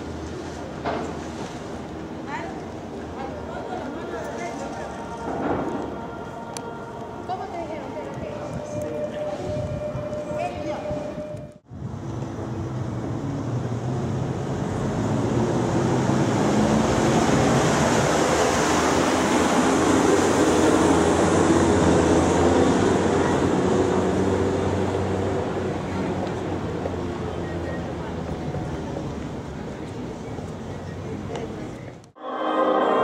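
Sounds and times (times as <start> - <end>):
engine hum: 0.0 - 32.2
passing vehicles rumbling: 0.0 - 32.2.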